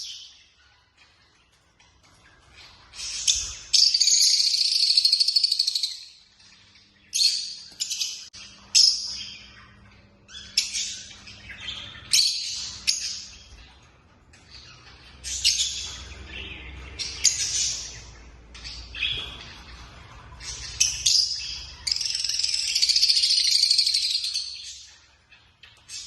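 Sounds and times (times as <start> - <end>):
lovebirds chattering and chirping: 0.0 - 26.0.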